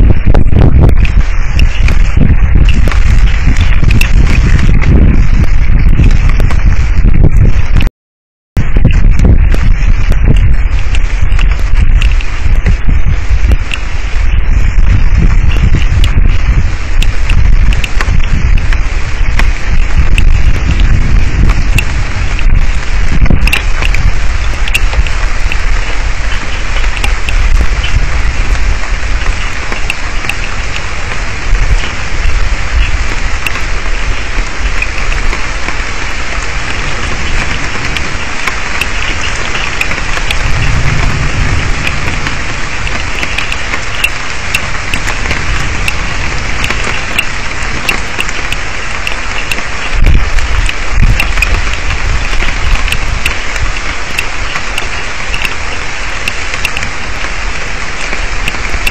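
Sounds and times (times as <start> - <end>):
heavy rain hissing: 0.0 - 7.9, 8.6 - 58.9
low thunder rumble: 0.0 - 7.9, 8.6 - 58.9
raindrops ticking near microphone: 0.0 - 7.9, 8.6 - 58.9.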